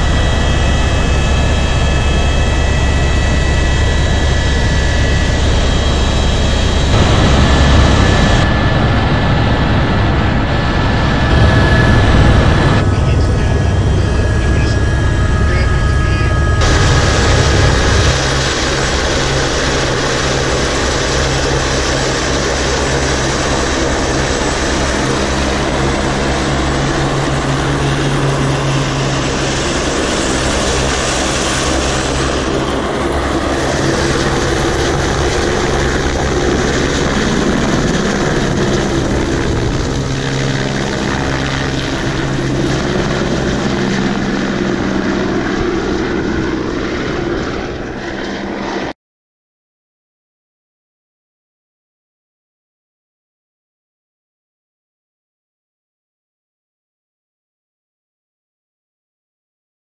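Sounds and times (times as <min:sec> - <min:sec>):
helicopter rotor and engine drone: 0:00.0 - 0:49.0.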